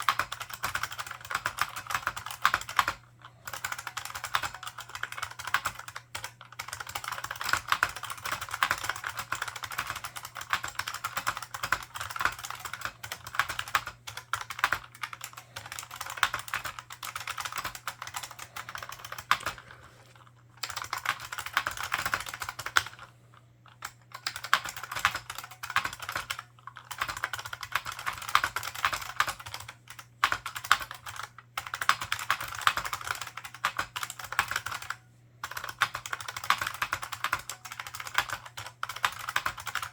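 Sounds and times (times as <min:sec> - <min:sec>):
fast typing key clacks: 0:00.0 - 0:19.6, 0:20.6 - 0:23.0, 0:23.8 - 0:39.9
faint low hum: 0:00.0 - 0:39.9.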